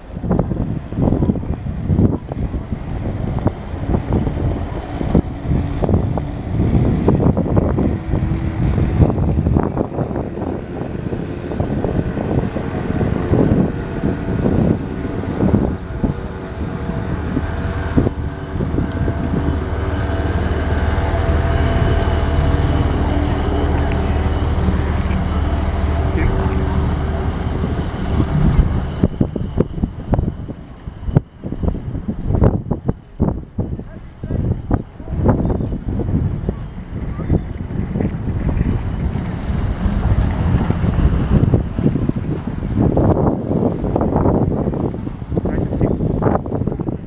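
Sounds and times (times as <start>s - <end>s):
boat engine running: 0.0s - 47.0s
wind buffeting microphone: 0.0s - 47.0s.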